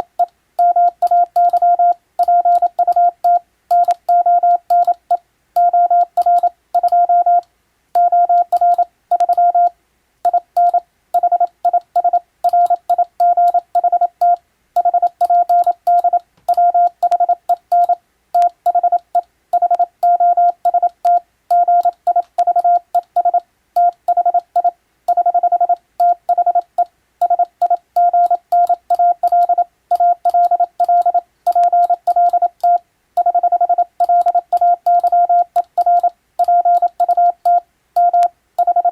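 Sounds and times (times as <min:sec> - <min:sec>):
faint keying clicks: 0:00.2 - 0:09.5, 0:10.2 - 0:38.8
morse code beeps: 0:00.6 - 0:07.4, 0:08.0 - 0:09.7, 0:10.3 - 0:38.9.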